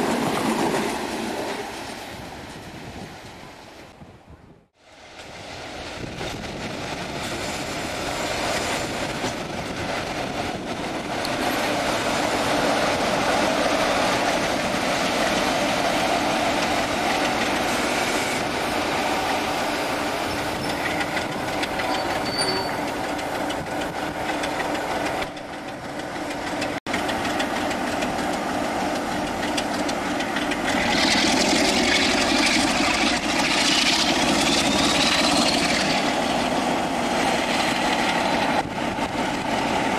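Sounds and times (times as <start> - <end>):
diesel locomotive engine running: 4.8 - 39.9.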